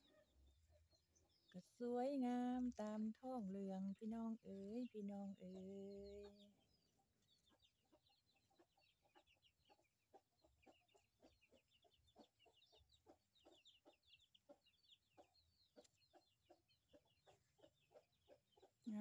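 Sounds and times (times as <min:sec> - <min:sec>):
chickens clucking: 0:02.2 - 0:19.0.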